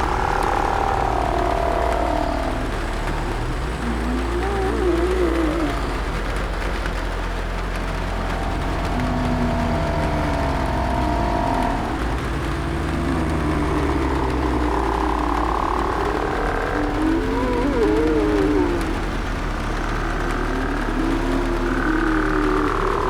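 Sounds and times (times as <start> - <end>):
low rumble: 0.0 - 23.0
rain on a roof: 0.0 - 23.0
zombie moans: 0.0 - 23.0.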